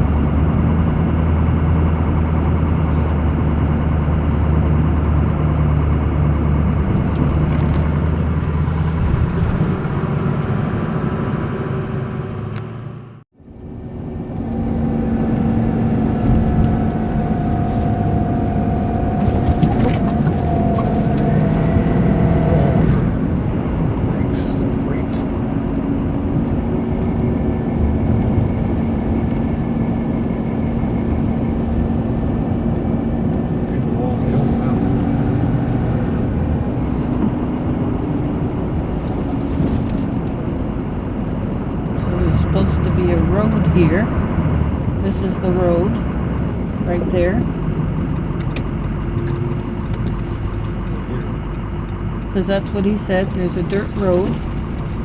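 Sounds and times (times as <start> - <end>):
engine and road noise: 0.0 - 55.0
held whine: 2.0 - 55.0.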